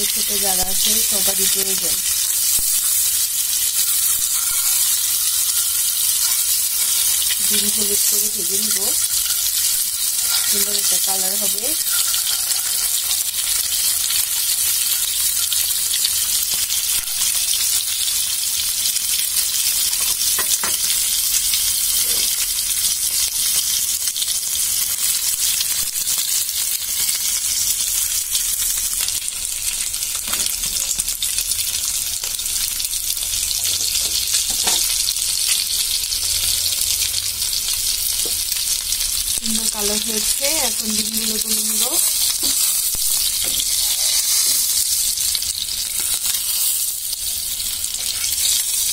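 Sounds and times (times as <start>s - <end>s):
eggs sizzling in hot oil: 0.0s - 48.9s.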